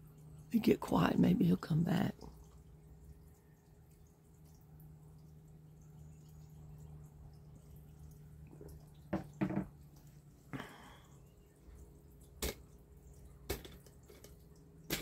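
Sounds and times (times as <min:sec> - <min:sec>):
faint low hum: 0:00.0 - 0:15.0
rainwater dripping: 0:00.0 - 0:15.0.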